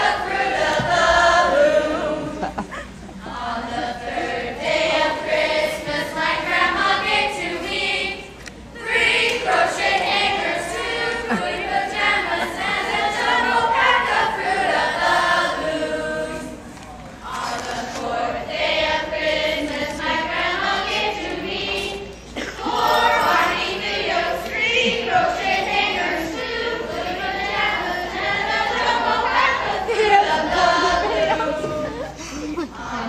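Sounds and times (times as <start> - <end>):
choir singing: 0.0 - 32.2, 32.8 - 33.0.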